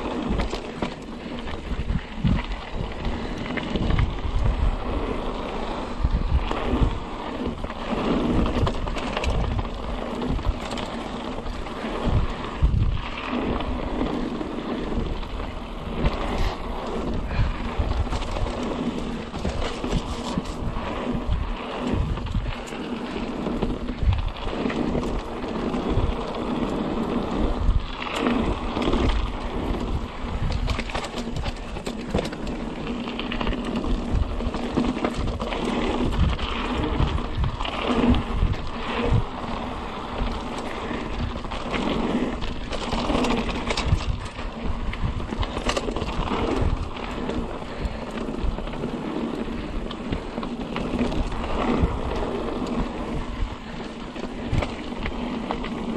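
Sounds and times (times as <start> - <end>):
bike rattling and knocking: 0.0 - 55.9
tyre rumble: 0.0 - 55.9
wind noise on microphone: 0.0 - 55.9.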